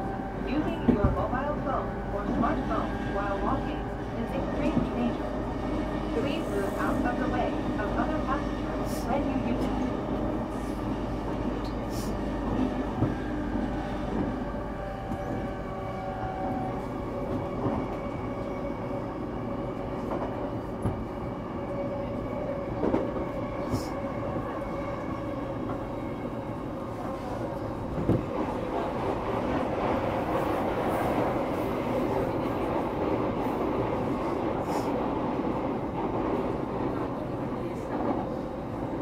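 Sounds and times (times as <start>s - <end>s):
train motors and wheels humming: 0.0s - 39.0s.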